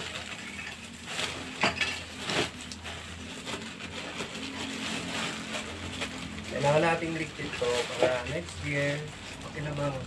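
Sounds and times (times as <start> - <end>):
tinsel and plastic bag rustling: 0.0 - 10.0.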